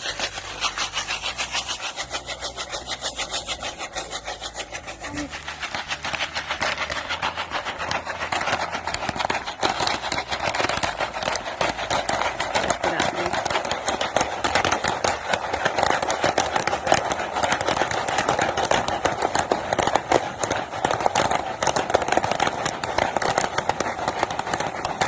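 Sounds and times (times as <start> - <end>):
popcorn popping: 0.0 - 25.0.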